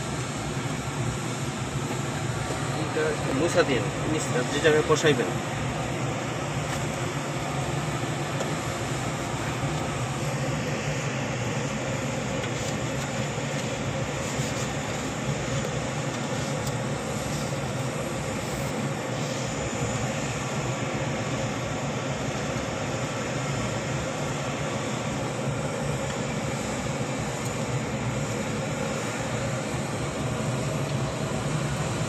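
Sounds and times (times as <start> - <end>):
aircraft machinery hum and hiss: 0.0 - 32.0.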